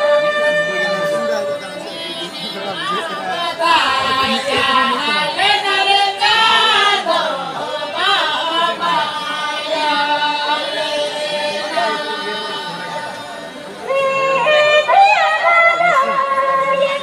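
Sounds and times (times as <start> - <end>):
voices singing in chorus: 0.0 - 13.9.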